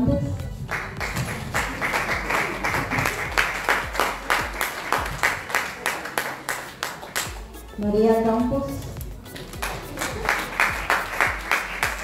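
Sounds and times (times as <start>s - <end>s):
audience clapping in rhythm: 0.4s - 7.8s, 8.9s - 12.0s.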